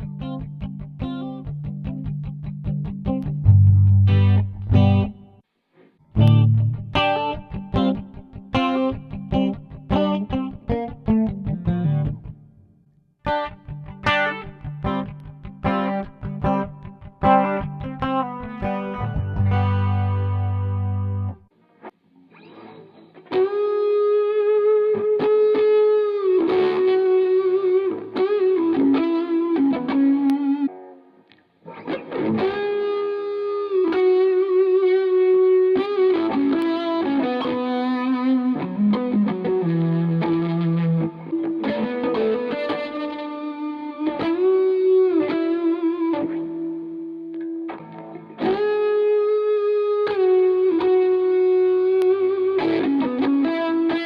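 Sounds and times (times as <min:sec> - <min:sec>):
overdriven electric guitar melody: 0:00.0 - 0:05.4, 0:06.1 - 0:54.0.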